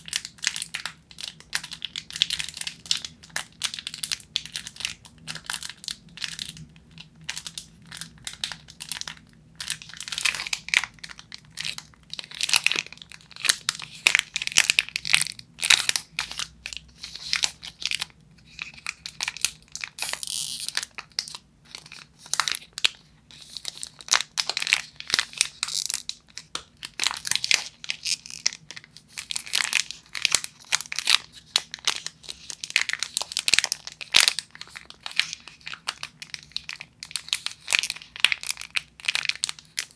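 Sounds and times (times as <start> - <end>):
plastic wrappers crinkling: 0.0 - 39.9.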